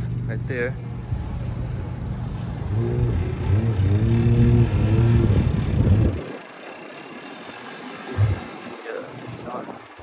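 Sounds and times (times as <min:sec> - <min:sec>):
vehicle engine running: 0:01.5 - 0:10.0.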